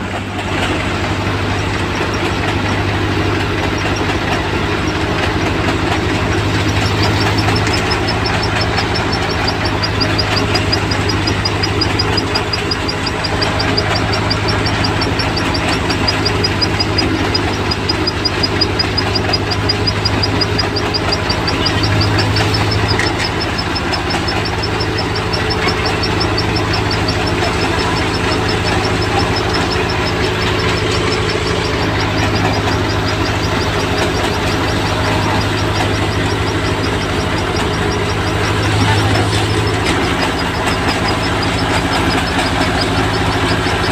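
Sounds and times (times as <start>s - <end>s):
harvester engine droning: 0.0s - 43.9s
fast high-pitched ticking: 1.3s - 43.9s.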